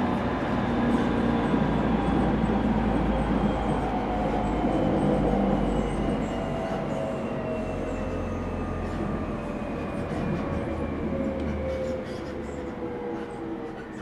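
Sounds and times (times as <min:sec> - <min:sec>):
rail running rumble: 0:00.0 - 0:14.0.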